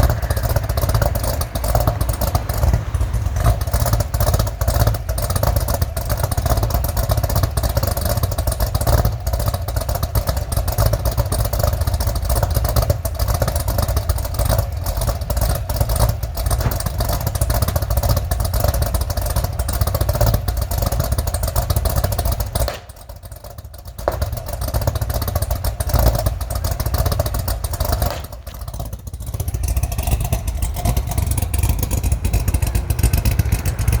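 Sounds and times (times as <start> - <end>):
car engine lumpy idle: 0.0 - 34.0.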